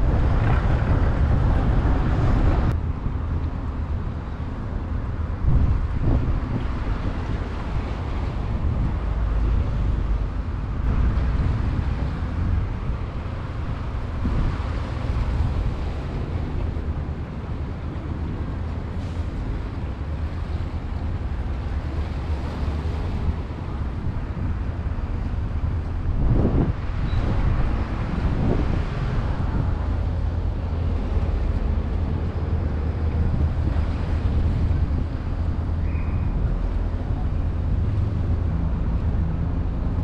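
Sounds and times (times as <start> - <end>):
open water wash: 0.0 - 40.0
wind buffeting microphone: 0.0 - 40.0.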